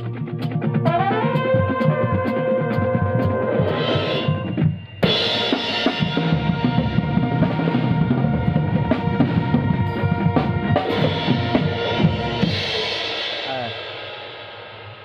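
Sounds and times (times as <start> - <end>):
drum kit groove with cymbal: 0.0 - 15.0.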